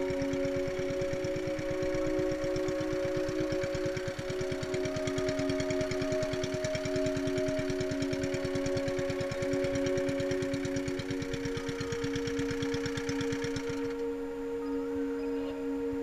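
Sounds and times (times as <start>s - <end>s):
motor-boat engine chugging: 0.0s - 16.0s.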